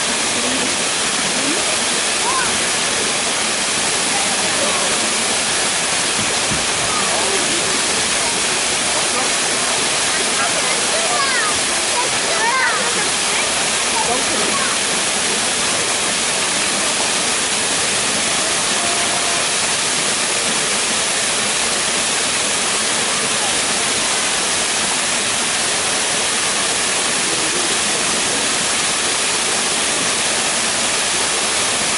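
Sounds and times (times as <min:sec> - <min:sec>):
waterfall splashing into pool: 0:00.0 - 0:31.9.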